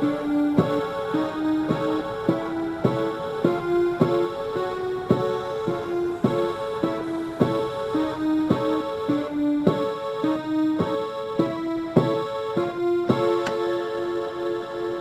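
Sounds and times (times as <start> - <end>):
keyboard playing repeating chords: 0.0 - 15.0.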